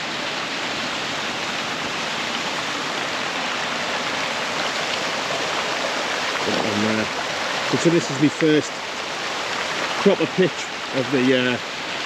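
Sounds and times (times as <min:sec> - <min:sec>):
small waterfall running: 0:00.0 - 0:12.0.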